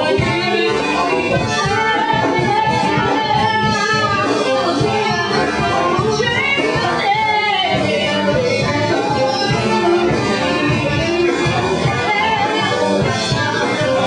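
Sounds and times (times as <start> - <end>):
swing band with horns: 0.0 - 14.0.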